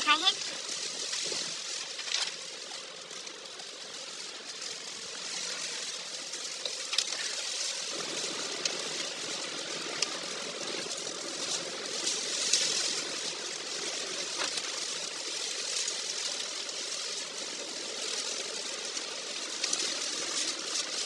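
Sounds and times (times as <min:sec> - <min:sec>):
low road noise: 0:00.0 - 0:21.0
tyres hissing through water: 0:00.0 - 0:21.0.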